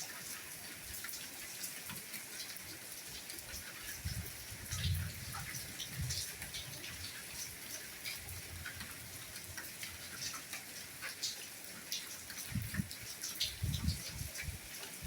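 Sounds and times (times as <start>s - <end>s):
soft rainfall: 0.0s - 15.0s.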